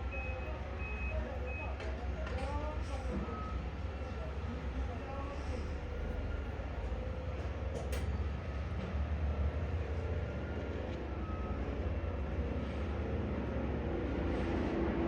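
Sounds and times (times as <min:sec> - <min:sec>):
heavy machine engine rumbling: 0:00.0 - 0:15.0.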